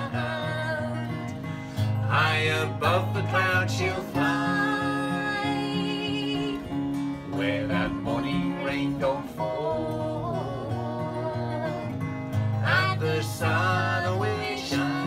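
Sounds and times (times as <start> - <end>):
person singing: 0.0 - 11.9, 12.6 - 15.0
acoustic guitar strummed and picked: 0.0 - 15.0.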